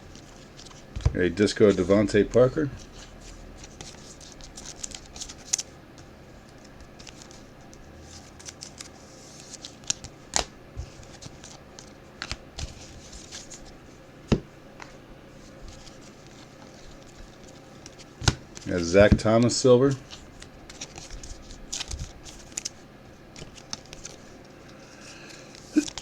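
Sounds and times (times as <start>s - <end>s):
trading cards being handled: 0.1s - 7.5s, 8.1s - 13.8s, 14.8s - 22.8s, 23.4s - 26.0s.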